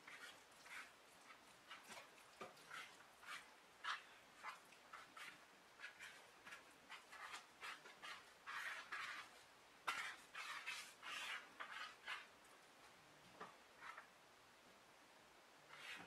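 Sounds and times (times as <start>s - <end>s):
hands rustling dough: 0.0s - 14.1s.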